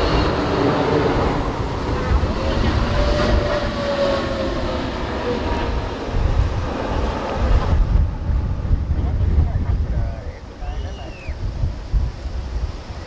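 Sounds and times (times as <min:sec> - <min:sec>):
jet engines rumbling and whining: 0:00.0 - 0:13.0
wind buffeting microphone: 0:00.0 - 0:13.0.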